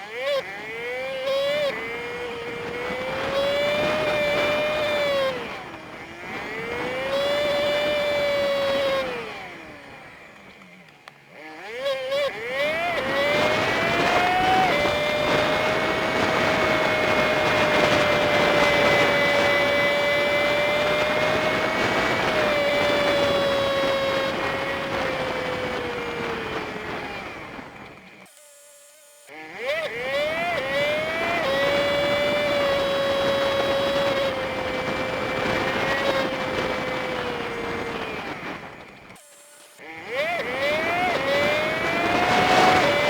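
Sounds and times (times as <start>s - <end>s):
high engine whine: 0.0s - 43.0s
wind and road noise: 0.0s - 43.0s.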